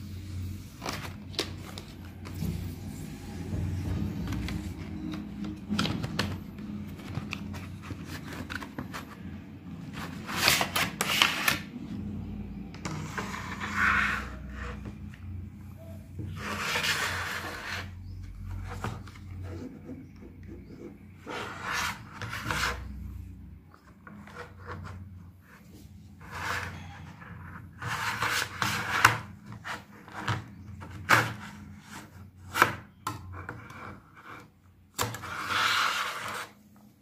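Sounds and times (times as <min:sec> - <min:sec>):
rubbing and scraping of packaging: 0:00.0 - 0:11.9, 0:12.8 - 0:15.3, 0:16.2 - 0:23.2, 0:23.8 - 0:36.8.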